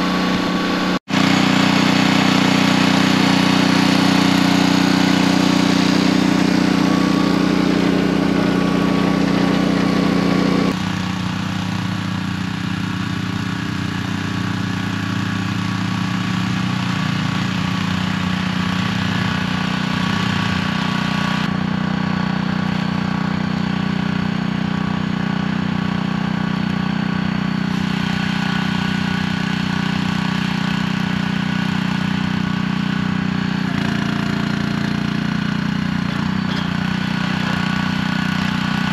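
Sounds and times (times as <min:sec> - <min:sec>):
log splitter engine running: 0:00.0 - 0:38.9.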